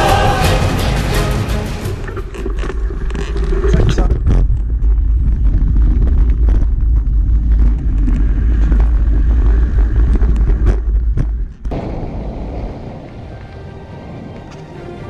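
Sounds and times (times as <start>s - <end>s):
low rumble of wind: 1.8s - 15.0s.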